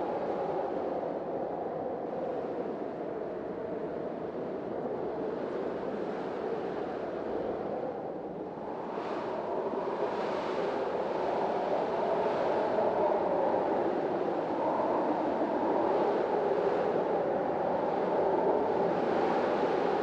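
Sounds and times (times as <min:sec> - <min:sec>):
strong storm wind blowing: 0:00.0 - 0:20.0.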